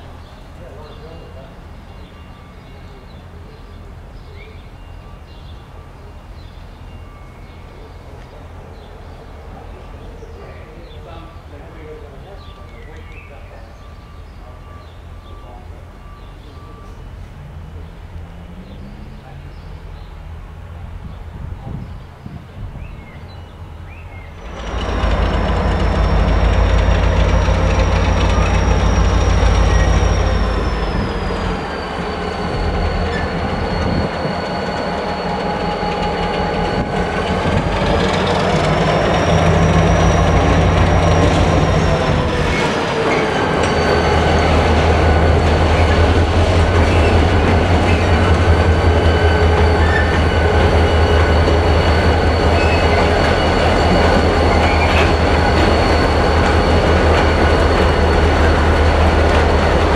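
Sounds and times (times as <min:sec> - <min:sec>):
diesel locomotives droning: 0:00.0 - 0:59.9.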